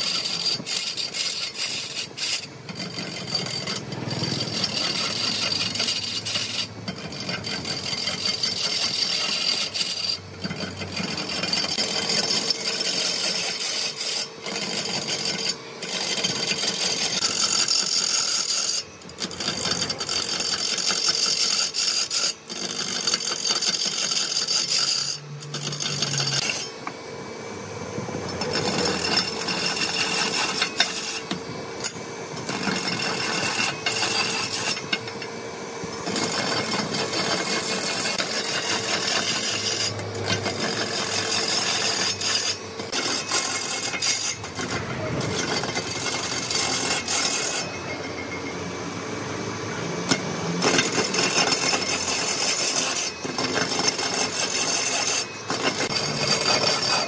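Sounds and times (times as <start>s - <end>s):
turning tool scraping wood: 0.0s - 26.9s, 28.3s - 35.3s, 36.0s - 48.0s, 50.6s - 57.0s
lathe motor hum: 0.0s - 57.0s.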